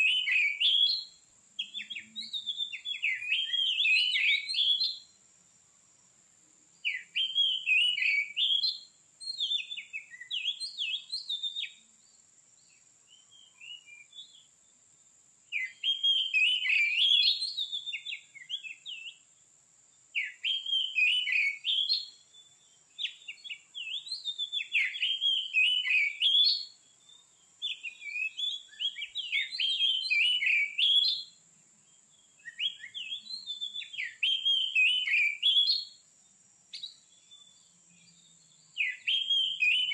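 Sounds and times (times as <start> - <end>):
bird singing whistled phrases: 0.0 - 5.2, 6.8 - 11.9, 12.7 - 14.5, 15.5 - 19.2, 20.2 - 31.4, 32.2 - 36.0, 36.7 - 39.9.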